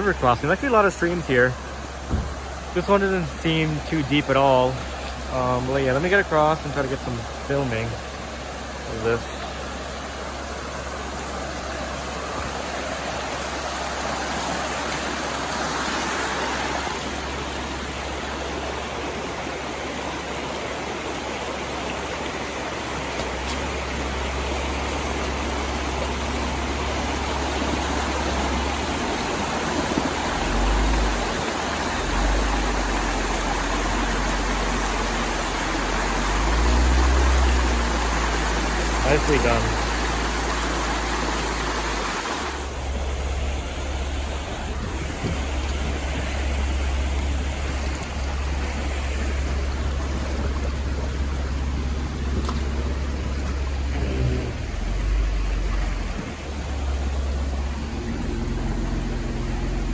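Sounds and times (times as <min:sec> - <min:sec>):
low engine rumble: 0:00.0 - 0:59.9
water rushing: 0:00.0 - 0:59.9.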